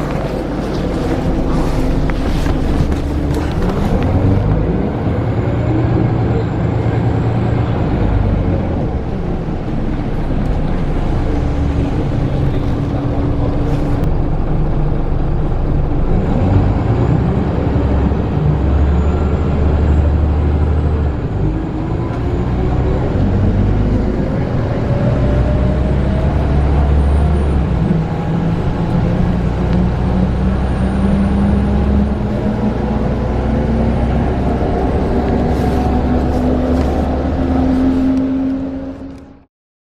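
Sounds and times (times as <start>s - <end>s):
bus diesel engine accelerating: 0.0s - 39.5s.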